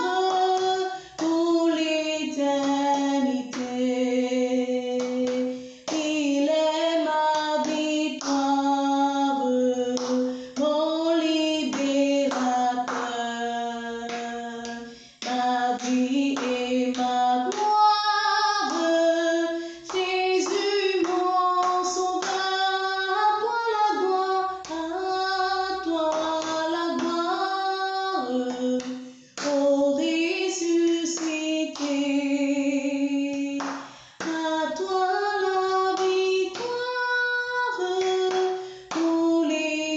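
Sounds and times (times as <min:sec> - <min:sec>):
woman singing hymn unaccompanied: 0:00.0 - 0:39.9.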